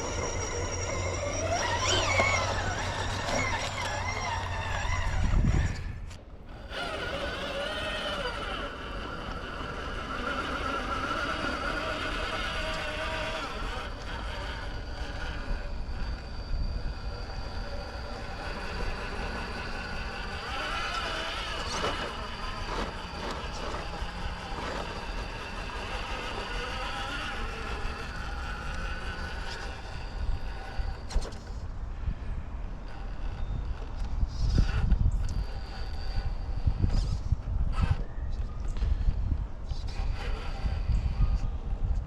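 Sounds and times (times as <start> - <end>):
toy car electric motor whining: 0.0 - 31.7, 32.7 - 42.0.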